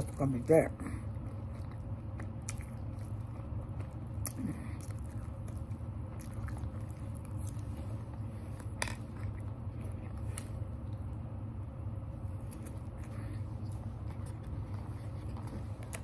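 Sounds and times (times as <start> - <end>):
steady low hum: 0.0 - 16.0
person chewing food: 0.8 - 16.0.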